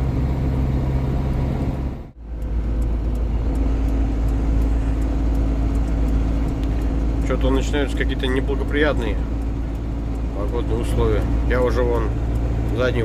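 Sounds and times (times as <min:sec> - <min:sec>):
truck engine and road noise: 0:00.0 - 0:13.0
hazard light relay ticking: 0:02.1 - 0:13.0.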